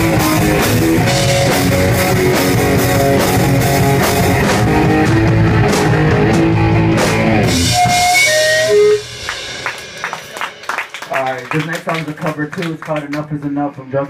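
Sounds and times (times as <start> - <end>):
live rock band: 0.0 - 13.6.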